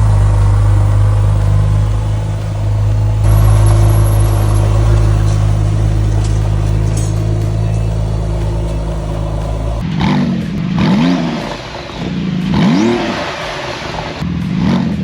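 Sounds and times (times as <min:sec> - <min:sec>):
car engine idling: 0:00.0 - 0:14.5.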